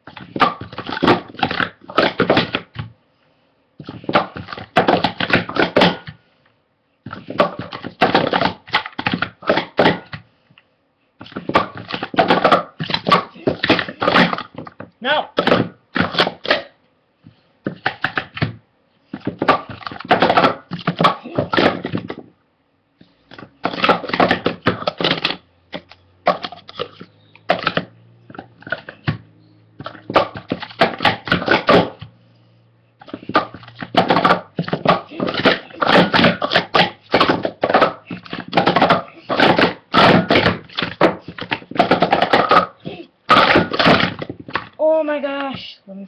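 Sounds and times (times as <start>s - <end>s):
plastic cups clattering: 0.0s - 2.8s, 3.8s - 6.2s, 7.1s - 10.2s, 11.2s - 16.8s, 17.6s - 22.2s, 23.3s - 32.1s, 33.0s - 44.8s
faint low hum: 0.0s - 46.0s.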